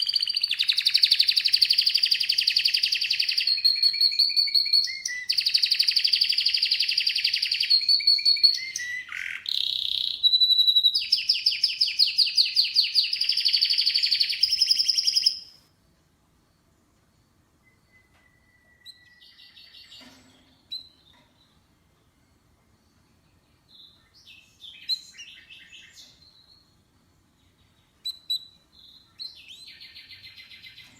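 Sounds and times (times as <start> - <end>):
canary singing trills: 0.0 - 15.6, 17.6 - 21.6, 22.3 - 30.9
faint bird chirps: 0.0 - 15.7, 16.3 - 30.9.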